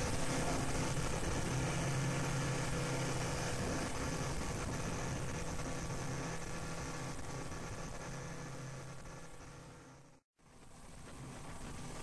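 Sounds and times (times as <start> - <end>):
boat engine running: 0.0 - 10.1
wind: 0.0 - 12.0.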